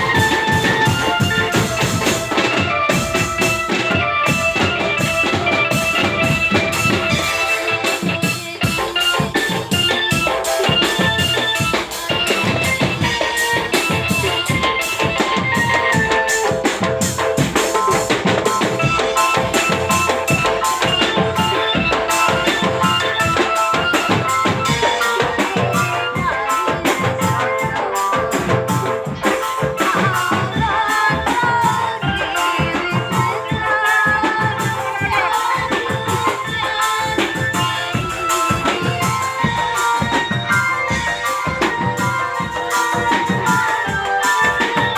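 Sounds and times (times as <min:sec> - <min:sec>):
drum band music: 0:00.0 - 0:44.9.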